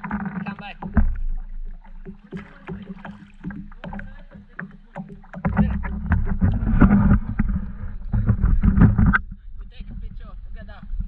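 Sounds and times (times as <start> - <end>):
paddle knocking plastic hull: 0.0 - 11.0
paddle splashing water: 0.0 - 11.0.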